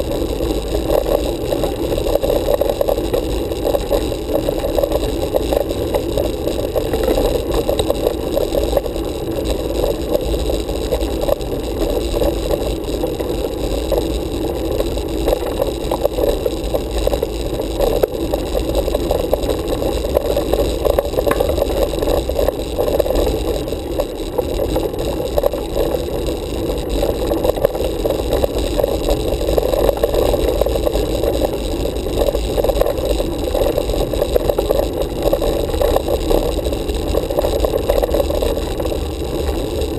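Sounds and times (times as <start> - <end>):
bicycle tyre road vibration: 0.0 - 39.9.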